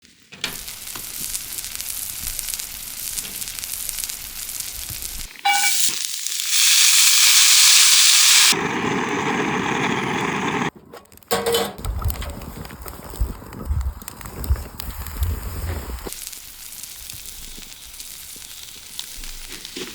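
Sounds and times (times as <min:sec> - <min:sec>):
beef sizzling over fire: 0:00.0 - 0:10.7, 0:12.0 - 0:19.9
fire crackle: 0:00.0 - 0:19.9.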